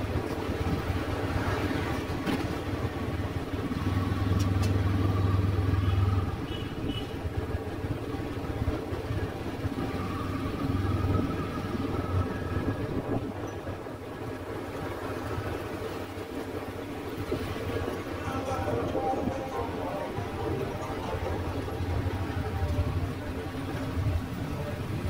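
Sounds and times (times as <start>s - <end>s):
city street traffic: 0.0s - 25.0s
motorbike engine hum: 0.0s - 25.0s
road noise: 0.0s - 25.0s.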